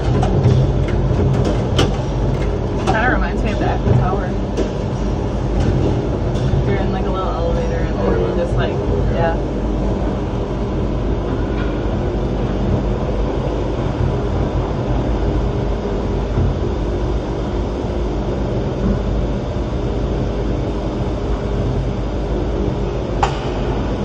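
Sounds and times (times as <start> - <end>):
tram machinery rumbling and whirring: 0.0 - 24.0.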